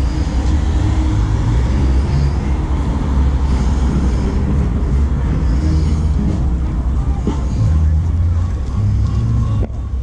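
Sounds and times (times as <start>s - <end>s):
car passing close: 0.0s - 9.7s
traffic rumble: 0.0s - 10.0s.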